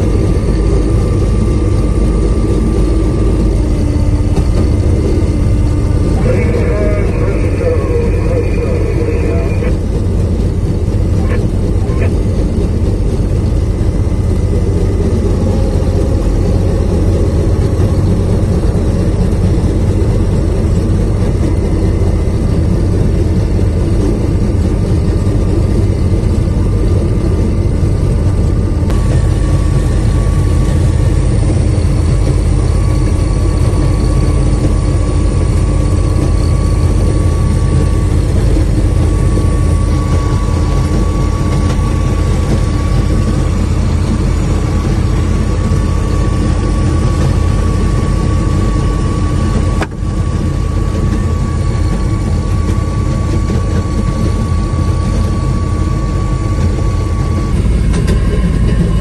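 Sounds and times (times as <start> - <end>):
faint steady whine: 0.0 - 59.0
rail car engine and rolling: 0.0 - 59.0.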